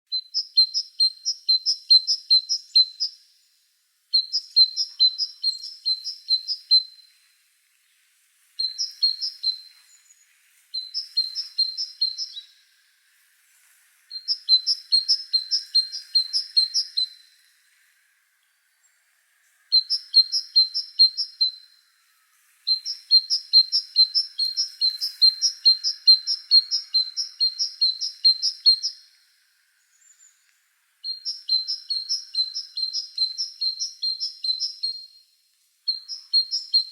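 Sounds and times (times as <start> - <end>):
songbird chirping: 0.1 - 36.9.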